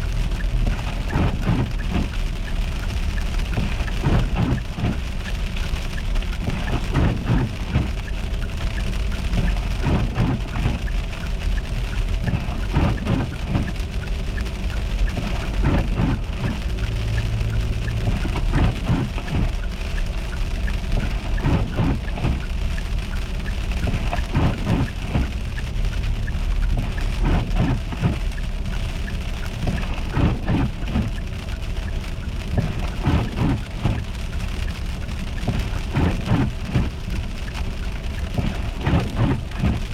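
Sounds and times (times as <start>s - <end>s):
sleet ticking on car: 0.0s - 39.9s
steady low rumble: 0.0s - 39.9s.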